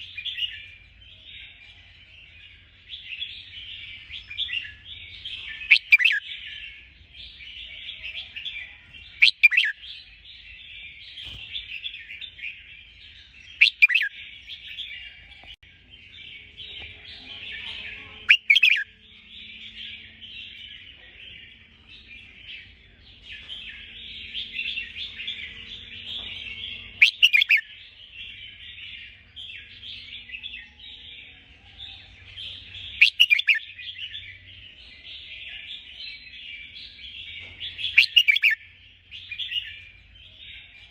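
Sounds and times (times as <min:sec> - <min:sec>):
birds chattering: 0:00.0 - 0:40.9
sharp bird calls: 0:02.2 - 0:15.6, 0:16.4 - 0:40.9.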